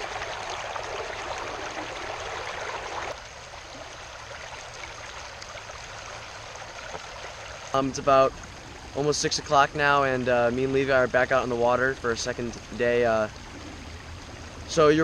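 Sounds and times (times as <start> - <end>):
small river flowing: 0.0 - 15.0.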